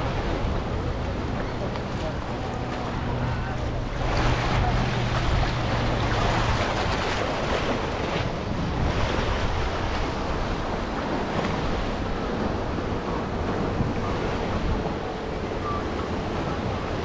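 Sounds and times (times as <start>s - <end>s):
waves lapping against rocks: 0.0s - 17.0s
wind buffeting microphone: 0.0s - 17.0s.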